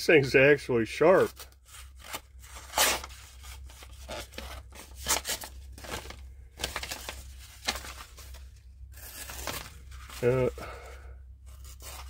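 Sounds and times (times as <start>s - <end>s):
paper rustling and crinkling: 1.2s - 10.9s, 11.5s - 12.0s.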